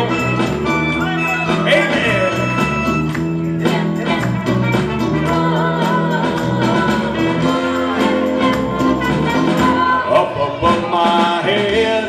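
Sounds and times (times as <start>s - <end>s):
gospel band instrumental: 0.0s - 12.0s.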